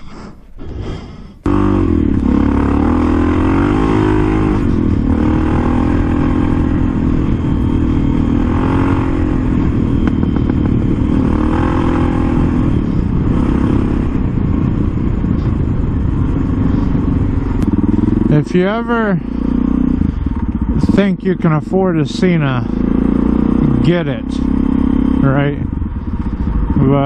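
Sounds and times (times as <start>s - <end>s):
wind noise on microphone: 1.4s - 23.8s, 24.6s - 27.0s
motorcycle engine revving: 1.4s - 27.0s.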